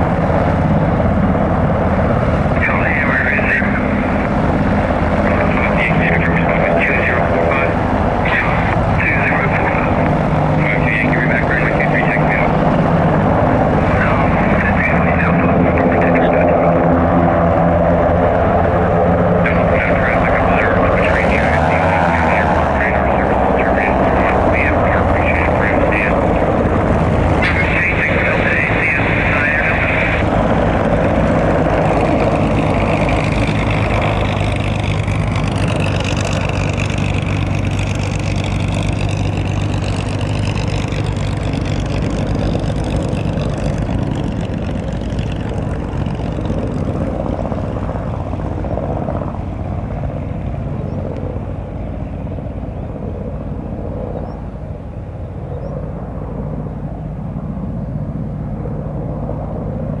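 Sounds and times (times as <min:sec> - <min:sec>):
helicopter rotor beat: 0:00.0 - 1:00.0
turbine engine whine: 0:00.0 - 1:00.0.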